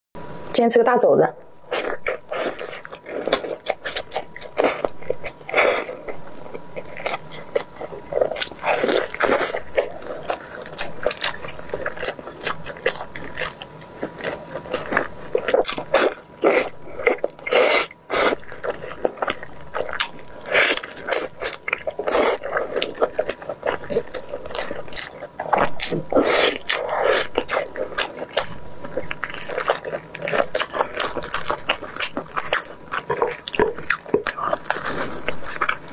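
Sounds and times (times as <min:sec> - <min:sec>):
biting and chewing: 0:01.6 - 0:35.9.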